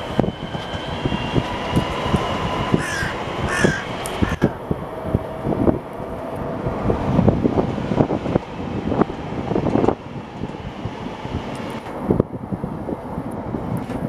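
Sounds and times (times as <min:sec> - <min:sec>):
train wheels rumbling on rail: 0:00.0 - 0:14.0
wind buffeting microphone: 0:00.0 - 0:14.0.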